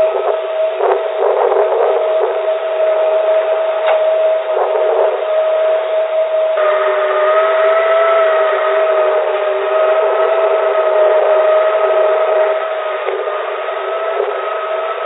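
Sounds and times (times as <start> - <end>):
higher hum tone: 0.0 - 15.0
steady hum tone: 0.0 - 15.0.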